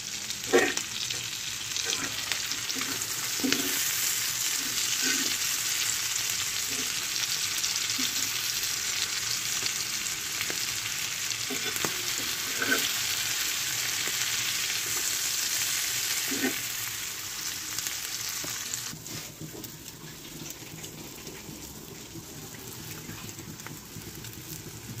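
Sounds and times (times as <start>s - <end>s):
food sizzling on griddle: 0.0s - 25.0s.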